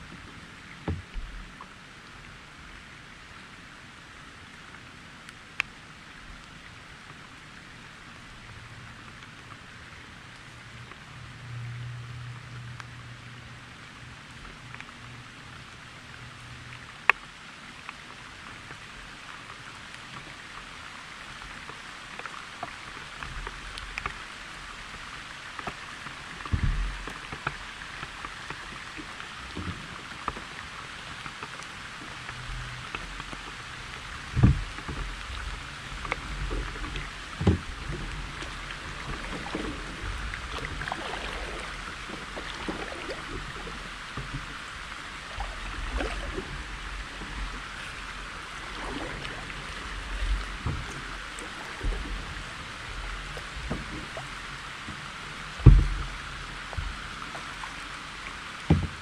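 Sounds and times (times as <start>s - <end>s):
rain pattering on water: 0.0s - 59.0s.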